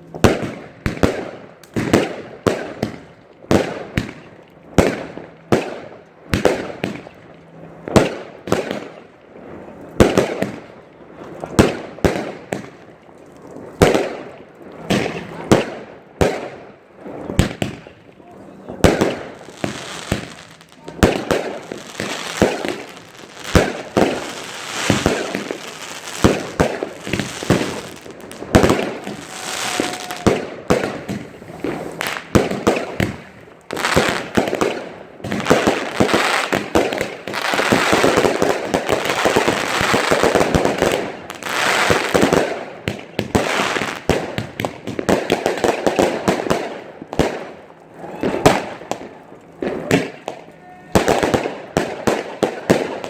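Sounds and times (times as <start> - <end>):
fireworks bursting with loud bangs: 0.0 - 53.0.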